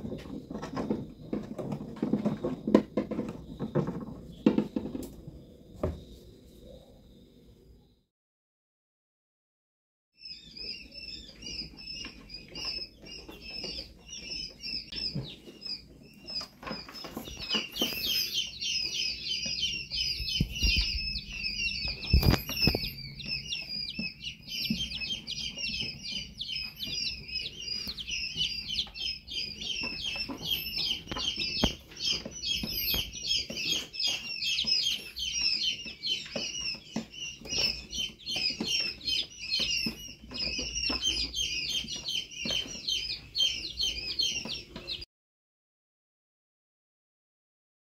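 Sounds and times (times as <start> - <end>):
chicks peeping: 0.0 - 7.8, 10.2 - 45.1.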